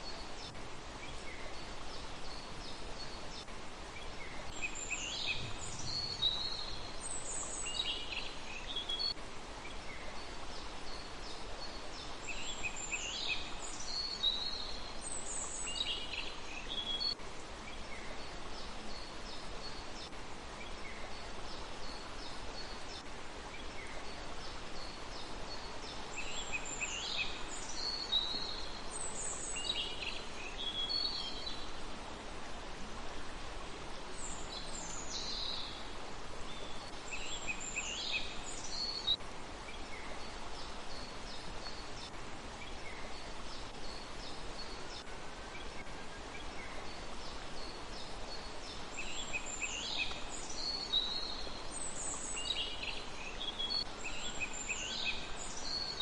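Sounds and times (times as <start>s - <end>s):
outdoor background hiss: 0.0s - 56.0s
songbird chirping: 0.0s - 56.0s.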